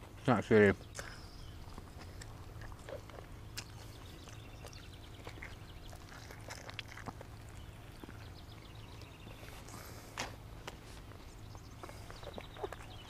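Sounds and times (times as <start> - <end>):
low steady hum: 0.0 - 13.0
person chewing food: 1.0 - 13.0.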